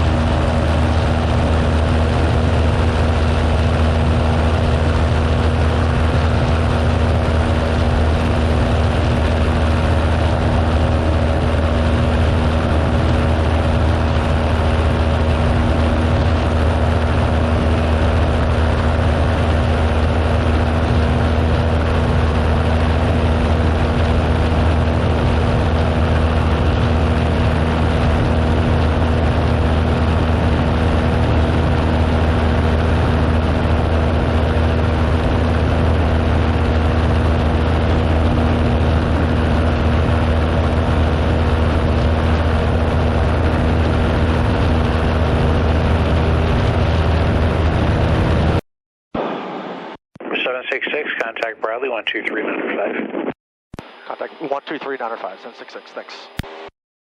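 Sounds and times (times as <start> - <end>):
propeller plane engine droning: 0.0 - 48.6, 53.8 - 56.7.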